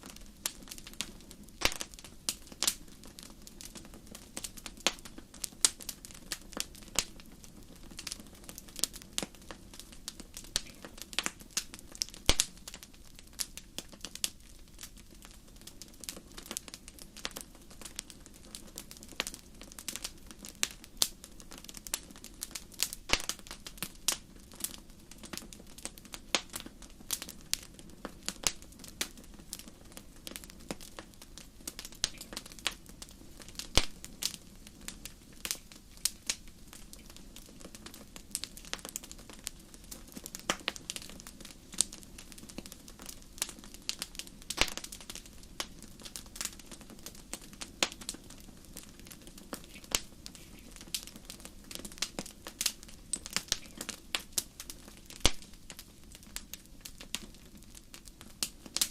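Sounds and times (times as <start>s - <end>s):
campfire crackles and pops: 0.0s - 58.9s
low rumble of flames: 0.0s - 58.9s.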